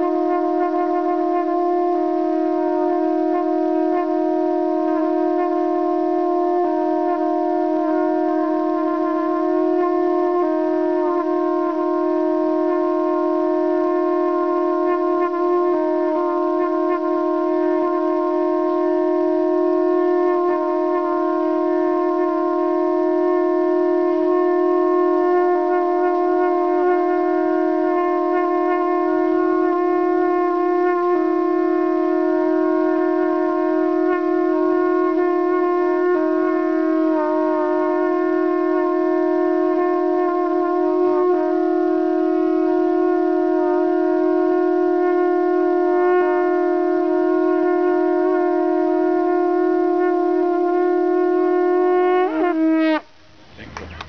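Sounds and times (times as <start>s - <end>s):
conch shells blown: 0.0s - 54.0s.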